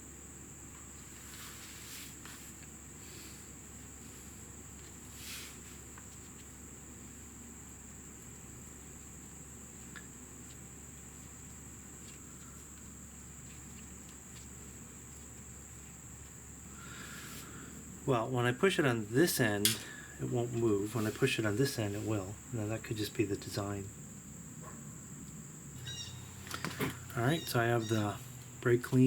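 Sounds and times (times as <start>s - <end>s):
steady high-pitched whine: 0.0s - 29.0s.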